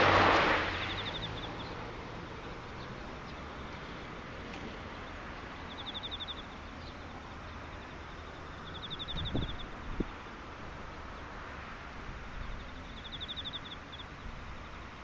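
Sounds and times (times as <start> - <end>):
passing vehicle: 0.0 - 15.0
insects trilling: 0.5 - 15.0.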